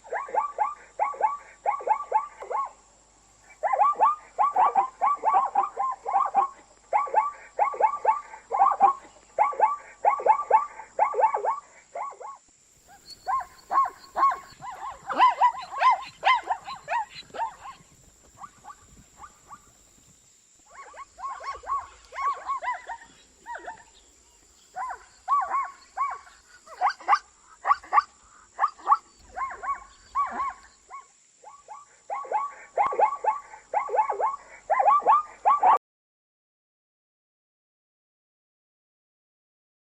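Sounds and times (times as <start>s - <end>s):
zebra bark-like yelps: 0.0s - 19.9s, 20.7s - 35.8s.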